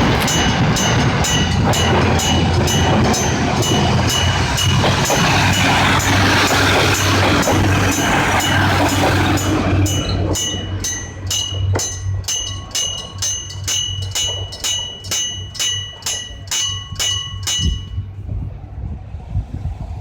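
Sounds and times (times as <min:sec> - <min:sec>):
level crossing bell striking gong: 0:00.0 - 0:18.1.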